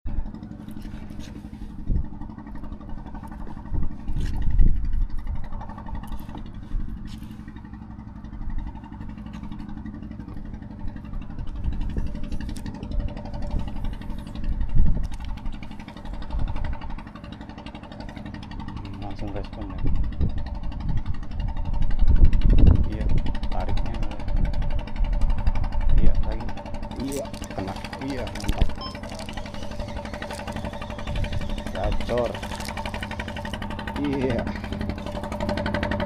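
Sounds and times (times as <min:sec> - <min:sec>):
engine running: 0:00.0 - 0:36.0.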